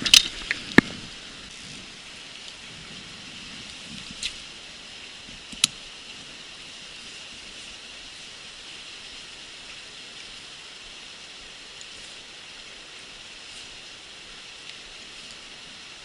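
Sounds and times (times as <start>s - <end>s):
stream water hissing: 0.0s - 16.0s.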